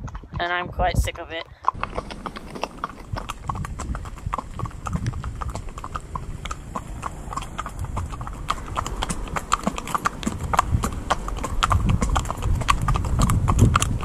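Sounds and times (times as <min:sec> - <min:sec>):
horse hooves on tarmac: 0:00.0 - 0:14.0
low rumble: 0:00.0 - 0:14.0.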